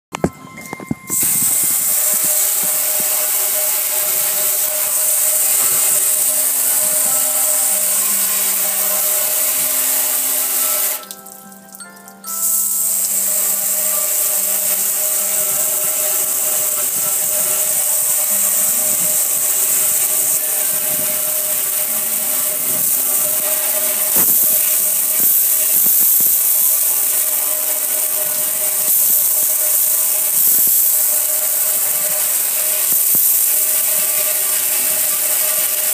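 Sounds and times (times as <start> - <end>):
music: 0.1 - 35.9
water jet hissing on metal: 1.1 - 35.9.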